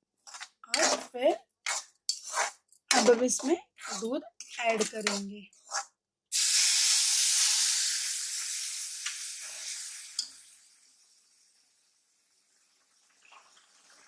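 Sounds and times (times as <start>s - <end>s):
milk sizzling in hot pan: 0.2s - 14.0s.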